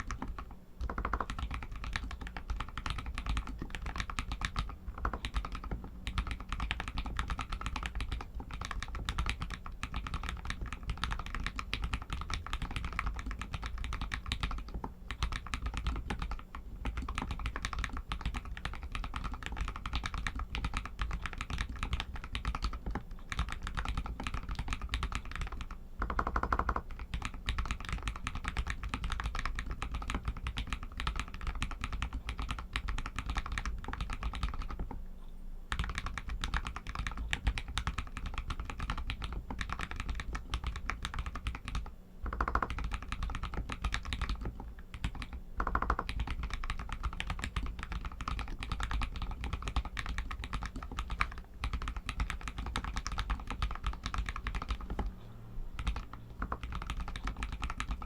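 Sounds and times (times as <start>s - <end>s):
fast typing on mechanical keyboard: 0.0s - 35.0s, 35.7s - 55.2s, 55.8s - 58.0s.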